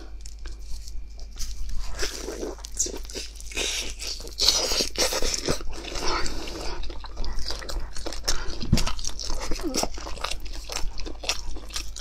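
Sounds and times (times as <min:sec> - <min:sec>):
crunchy biting and chewing: 0:00.0 - 0:12.0.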